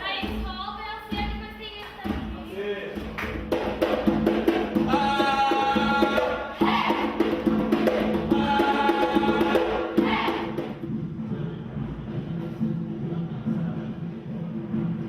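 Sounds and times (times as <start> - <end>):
percussion ensemble drumming: 0.0 - 15.0.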